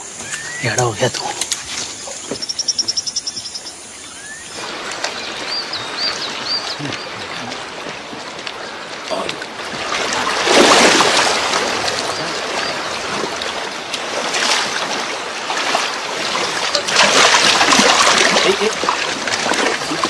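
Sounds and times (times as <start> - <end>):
people wading through water: 0.0 - 20.0
water splashing: 0.0 - 20.0.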